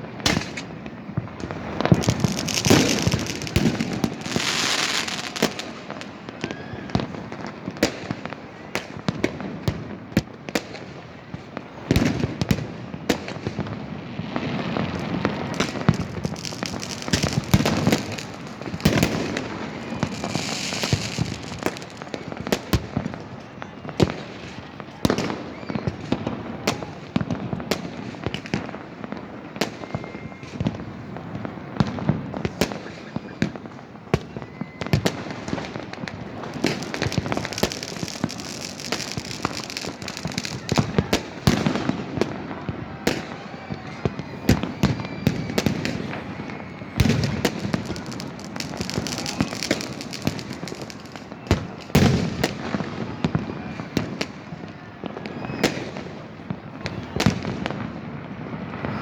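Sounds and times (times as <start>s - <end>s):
firecrackers crackling: 0.0s - 59.0s
firework bangs: 0.0s - 59.0s.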